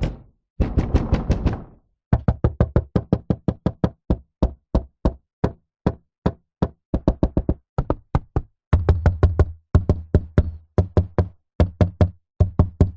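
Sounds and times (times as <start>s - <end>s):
knocking on a door: 0.0s - 12.9s.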